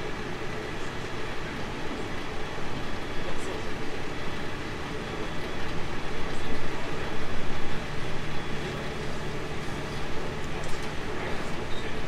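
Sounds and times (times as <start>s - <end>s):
electric train running on track: 0.0s - 12.0s.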